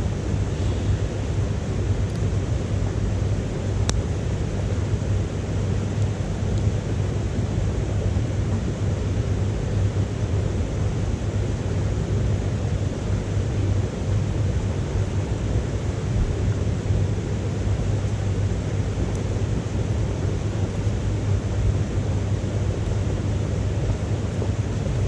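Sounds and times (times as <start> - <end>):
wood fire roaring in stove: 0.0 - 25.0.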